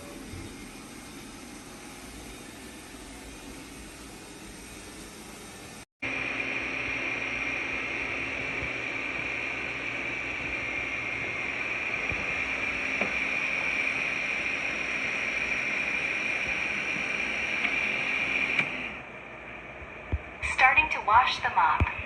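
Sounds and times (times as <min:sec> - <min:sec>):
robot vacuum whirring whine: 0:00.0 - 0:19.1.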